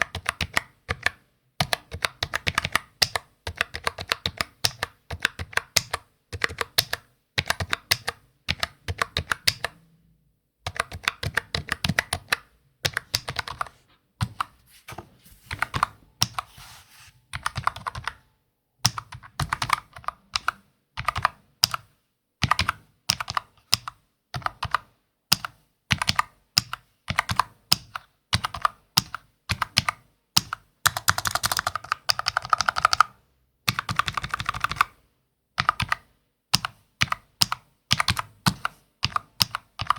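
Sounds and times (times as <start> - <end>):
typing on computer keyboard: 0.0 - 9.9, 10.6 - 14.5, 17.4 - 18.2, 18.8 - 35.0, 35.6 - 39.9.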